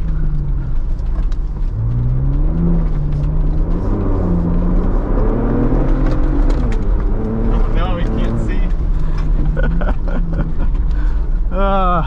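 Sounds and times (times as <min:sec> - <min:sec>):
car engine accelerating: 0:00.0 - 0:12.0
tyres rumbling on dirt: 0:00.0 - 0:12.0.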